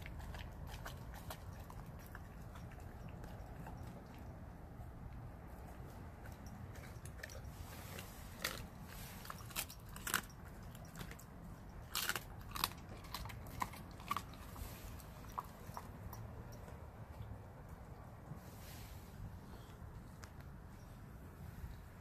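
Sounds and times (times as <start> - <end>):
dog chewing with crunches: 0.0 - 18.5.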